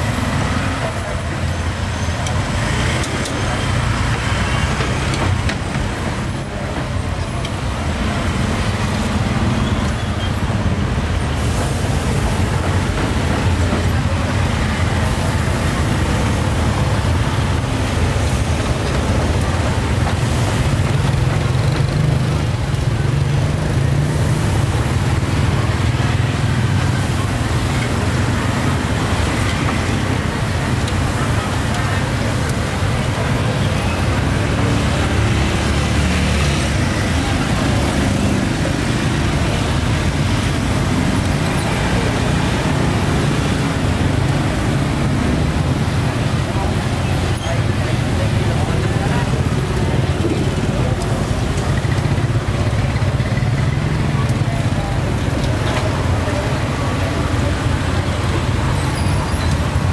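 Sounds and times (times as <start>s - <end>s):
motorbikes and cars passing: 0.0s - 59.9s.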